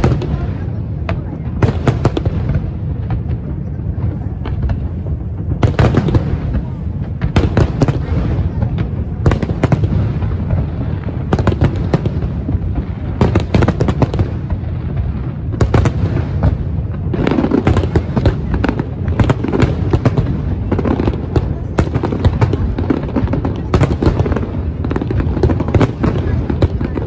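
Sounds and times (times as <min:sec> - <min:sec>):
fireworks bangs and crackle: 0:00.0 - 0:27.0.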